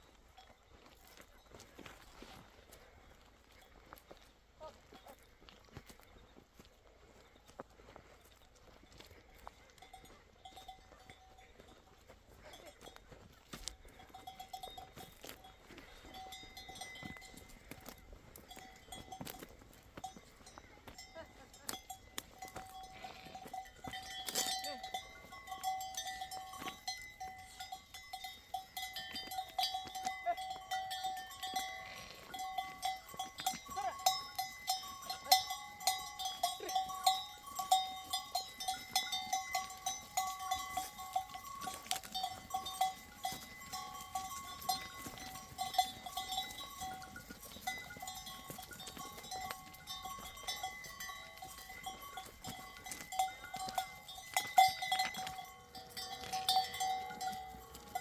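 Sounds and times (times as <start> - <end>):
livestock bells clinking: 0.0 - 58.0.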